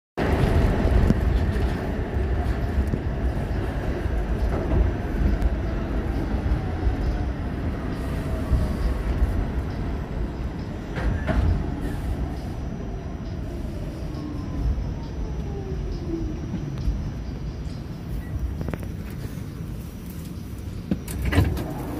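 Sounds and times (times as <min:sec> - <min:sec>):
subway wheels rumbling on rail: 0:00.2 - 0:21.9.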